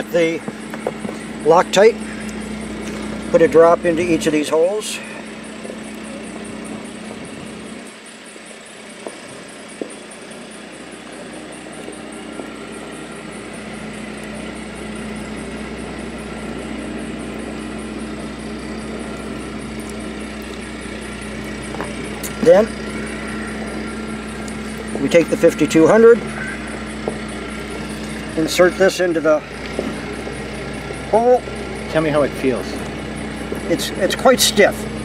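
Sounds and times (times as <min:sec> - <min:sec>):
motor humming: 0:00.0 - 0:35.0.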